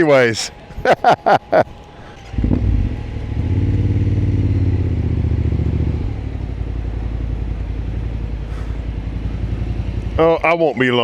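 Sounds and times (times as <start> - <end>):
motorcycle engine starting and idling: 2.2 - 11.0.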